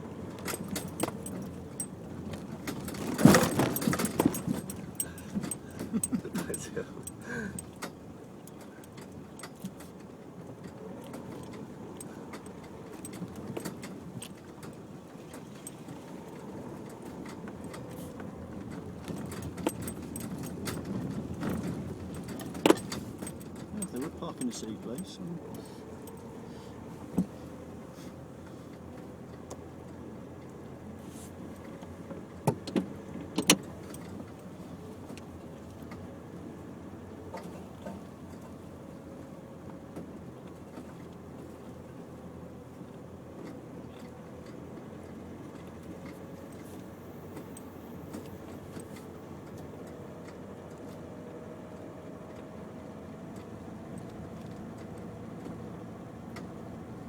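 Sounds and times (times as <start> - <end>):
car engine and tyre rumble: 0.0 - 57.0
rattles of loose things in car: 0.0 - 57.0.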